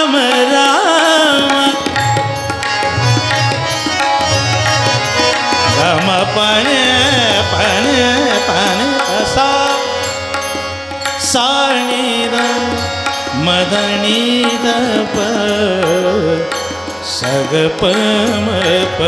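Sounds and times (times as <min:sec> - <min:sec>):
man singing wordless melody: 0:00.0 - 0:03.1, 0:05.6 - 0:19.0
harmonium: 0:00.0 - 0:19.0
tabla: 0:00.0 - 0:19.0.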